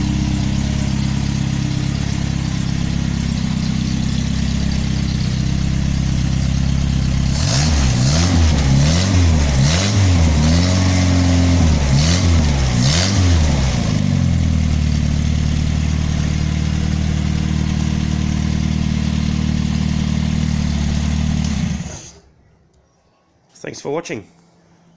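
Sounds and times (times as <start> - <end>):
car engine idling and revving: 0.0 - 22.3.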